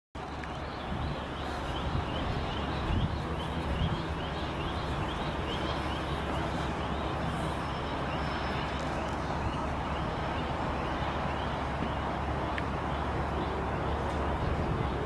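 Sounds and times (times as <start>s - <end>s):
helicopter engine and rotor drone: 0.2s - 15.0s.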